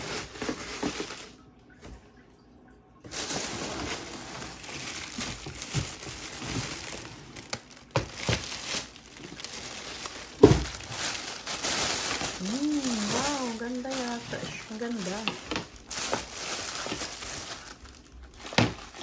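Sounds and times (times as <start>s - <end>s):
plastic bag crinkling: 0.0s - 1.4s, 3.1s - 19.0s
cardboard box rustling: 3.2s - 19.0s.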